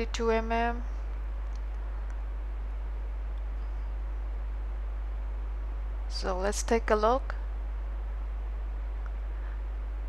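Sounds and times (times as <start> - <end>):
faint background hiss: 0.0 - 10.0
low electrical hum: 0.0 - 10.0.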